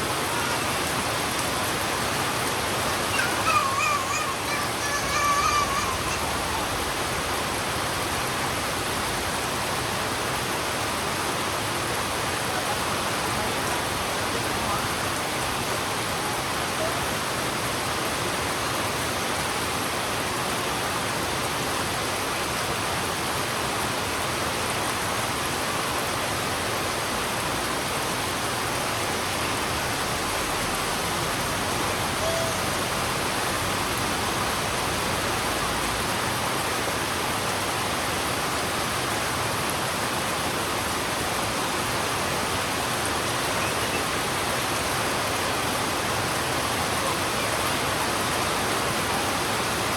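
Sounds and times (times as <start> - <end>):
heavy rain on a road: 0.0 - 49.9.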